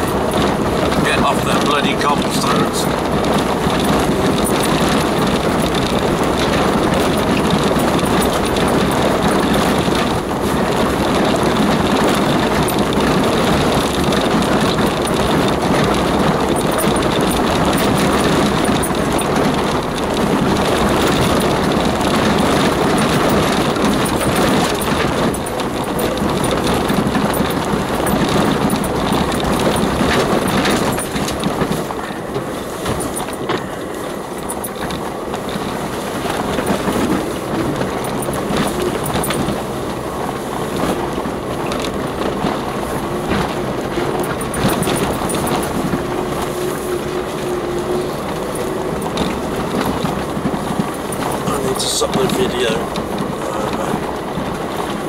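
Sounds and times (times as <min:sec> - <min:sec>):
tyres on gravel: 0:00.0 - 0:55.0
vehicle engine: 0:00.0 - 0:55.0.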